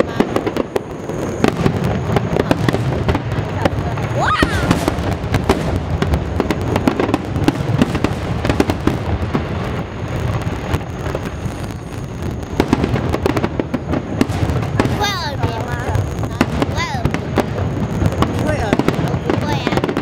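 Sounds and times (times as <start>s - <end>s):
continuous low rumble: 0.0s - 20.0s
fireworks bangs and crackles: 0.0s - 20.0s.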